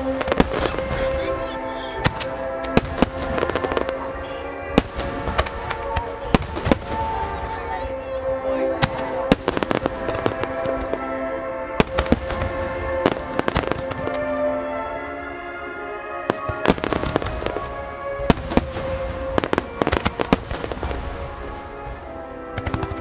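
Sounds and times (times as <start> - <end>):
fireworks cracks and booms: 0.0 - 15.2, 16.2 - 23.0
music with long held notes: 0.0 - 23.0.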